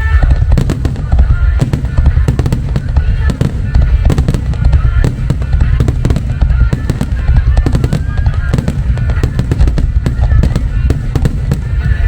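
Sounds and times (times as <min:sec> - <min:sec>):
fireworks bangs and booms: 0:00.0 - 0:12.0
music playing: 0:00.0 - 0:12.0.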